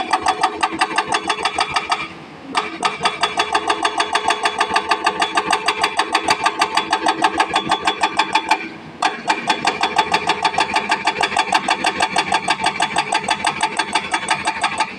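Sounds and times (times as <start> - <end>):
hydraulic breaker hammering rock: 0.0 - 14.9.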